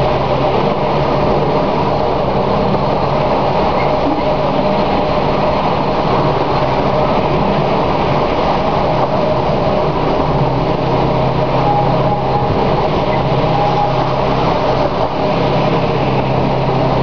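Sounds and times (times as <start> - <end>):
diesel locomotive engine drone: 0.0 - 17.0
train wheels on rails: 0.0 - 17.0.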